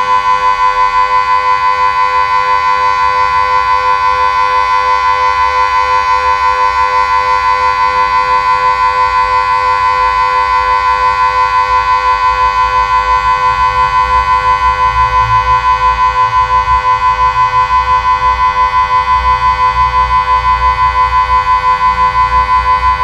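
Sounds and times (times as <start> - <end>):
civil defence siren steady tone: 0.0 - 23.0.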